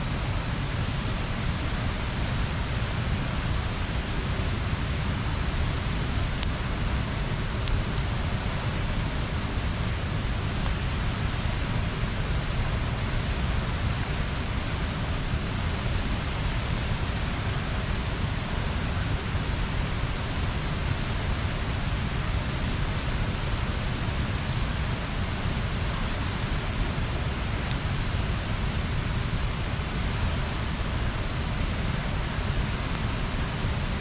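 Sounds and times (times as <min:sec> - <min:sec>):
bonfire hissing: 0:00.0 - 0:34.0
fire popping: 0:00.0 - 0:34.0.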